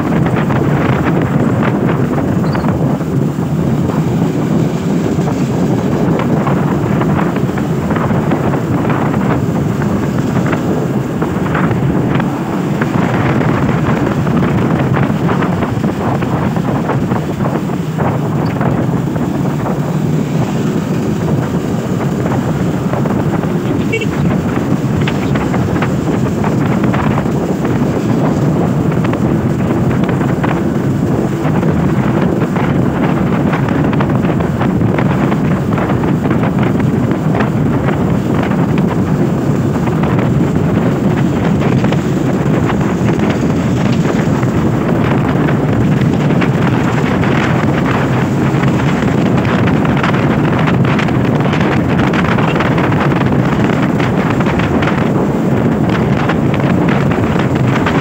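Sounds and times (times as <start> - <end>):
motorcycle engine: 0.0 - 58.0
tyres on wet road: 0.0 - 58.0
wind noise on microphone: 0.0 - 58.0.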